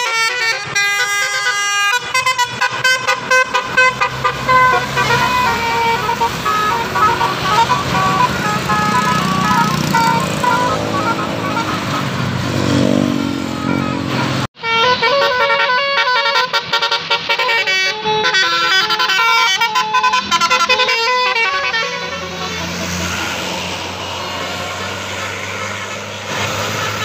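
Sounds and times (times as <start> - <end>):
bus engine running: 0.0 - 27.0
multi-tone air horn melody: 0.0 - 27.0.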